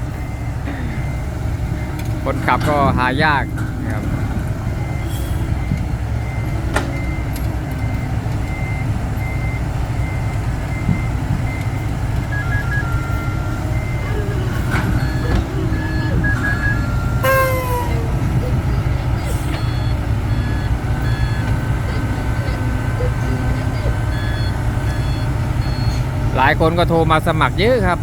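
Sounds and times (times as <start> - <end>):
heavy vehicle engine running: 0.0 - 28.0
truck reversing alarm beeps: 0.0 - 28.0.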